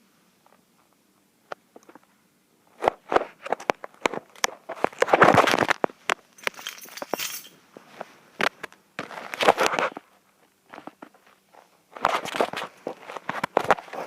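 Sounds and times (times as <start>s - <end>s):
clicks and crackles: 0.4s - 14.0s
rustling: 1.7s - 14.0s.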